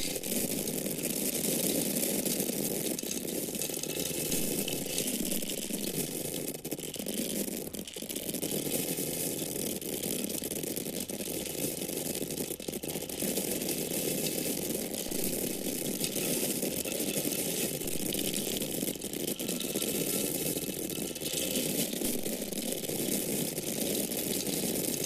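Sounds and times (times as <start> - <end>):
corn kernels pouring and rattling: 0.0 - 25.0.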